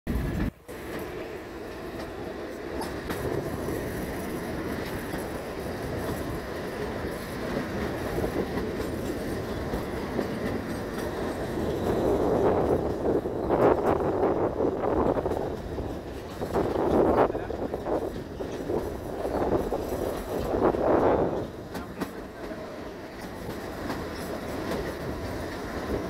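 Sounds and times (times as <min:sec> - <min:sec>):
train wheels rumbling on rails: 0:00.1 - 0:26.0.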